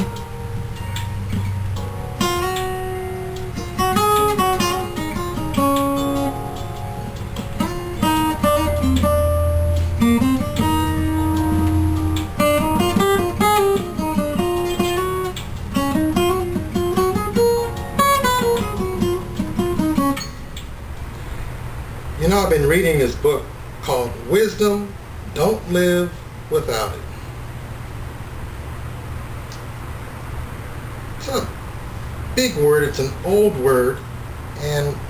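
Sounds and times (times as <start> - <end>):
acoustic guitar music: 0.0 - 27.4, 31.2 - 35.0.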